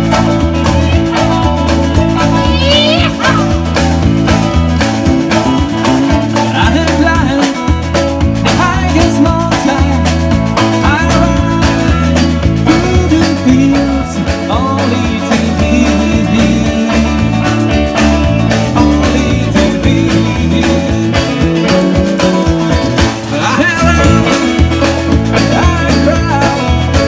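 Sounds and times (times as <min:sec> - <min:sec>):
live rock band playing: 0:00.0 - 0:27.0.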